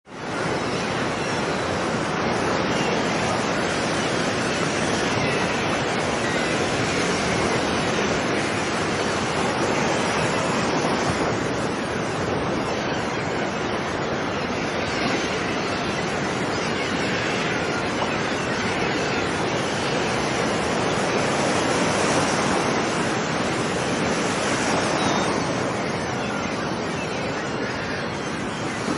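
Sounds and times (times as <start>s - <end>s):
ocean surf washing onto beach: 0.1s - 28.9s.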